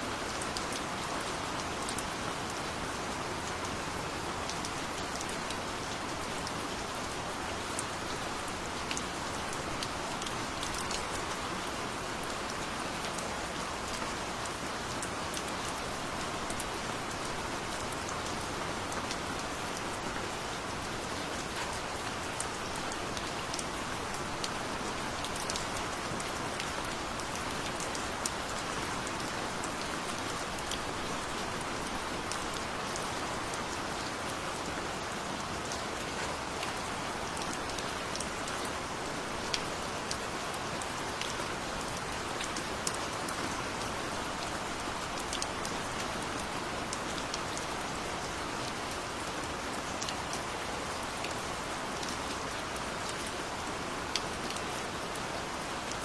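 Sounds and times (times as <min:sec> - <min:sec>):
gentle rain hissing: 0:00.0 - 0:56.0
raindrops ticking on a surface: 0:00.1 - 0:56.0.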